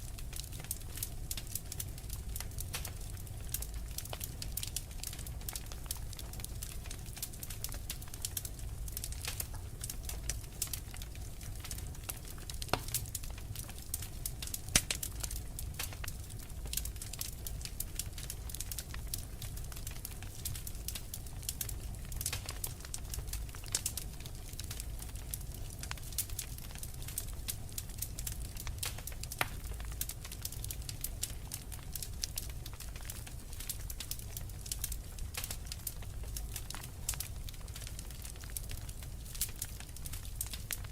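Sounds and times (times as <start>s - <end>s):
fire crackling and popping: 0.0s - 40.9s
low rumble of fire: 0.0s - 40.9s.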